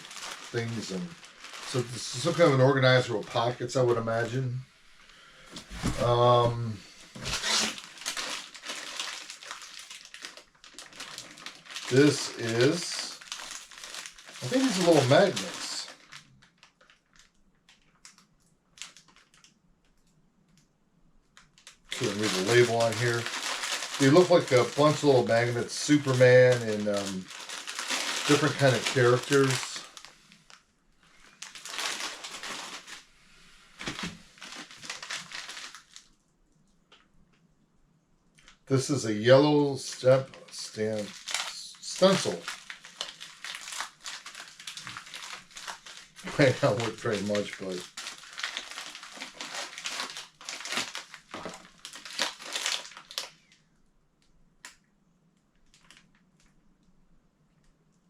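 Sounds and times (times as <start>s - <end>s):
plastic packaging crinkling: 0.0s - 4.4s, 7.1s - 20.0s, 21.4s - 33.1s, 33.8s - 36.2s, 39.2s - 53.6s, 55.6s - 56.5s.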